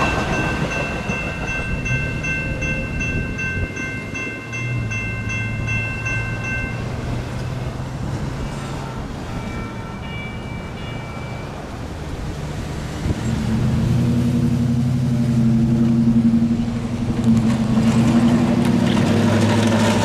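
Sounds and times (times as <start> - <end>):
heavy engine humming: 0.0 - 20.0.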